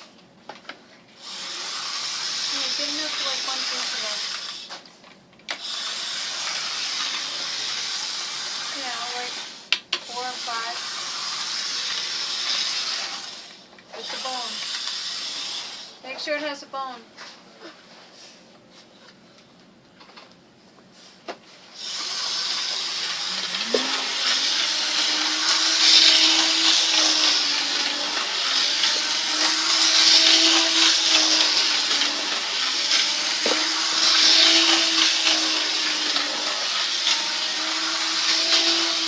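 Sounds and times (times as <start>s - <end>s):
model train motor whirring: 1.2s - 4.7s, 5.5s - 16.4s, 21.7s - 39.0s.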